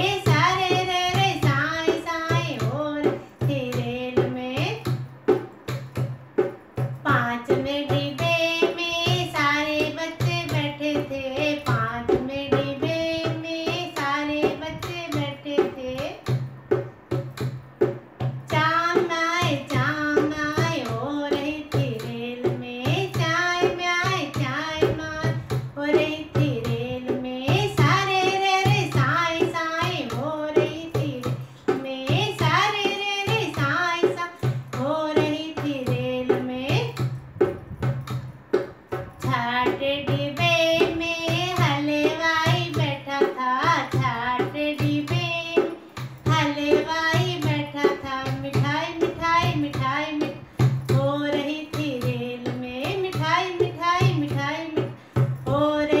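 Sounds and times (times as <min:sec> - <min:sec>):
woman singing folk song: 0:00.0 - 0:05.0, 0:07.0 - 0:16.3, 0:18.4 - 0:37.2, 0:39.2 - 0:56.0
hand drum beating: 0:00.0 - 0:56.0.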